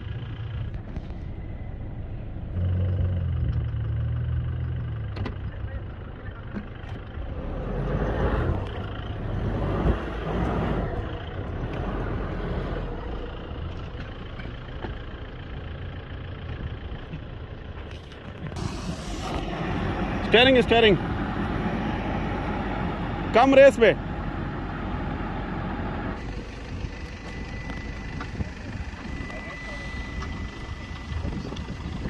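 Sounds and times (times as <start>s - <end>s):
pickup truck engine running: 0.0s - 32.0s.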